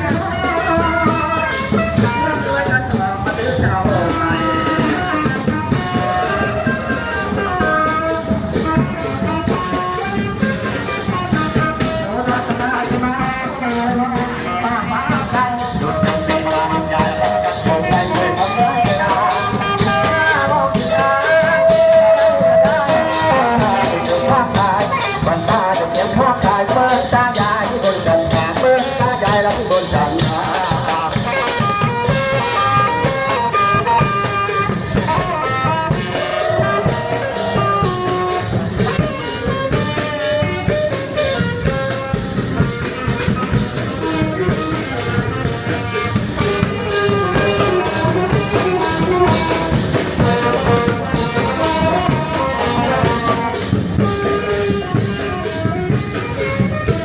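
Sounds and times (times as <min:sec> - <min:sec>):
drum kit steady beat: 0:00.0 - 0:57.0
trumpet and trombone: 0:00.0 - 0:57.0.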